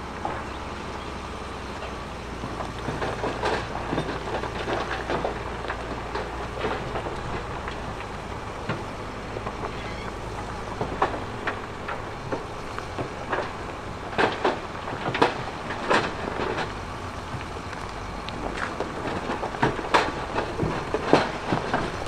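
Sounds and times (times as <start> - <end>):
heavy machinery rumbling: 0.0 - 22.0
rocks clattering and knocking: 0.1 - 22.0.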